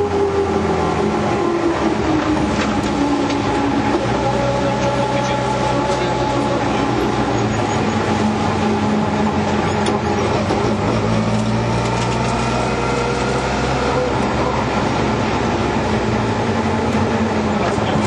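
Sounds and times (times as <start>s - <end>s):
rally car engine: 0.0s - 18.0s
road noise: 0.0s - 18.0s.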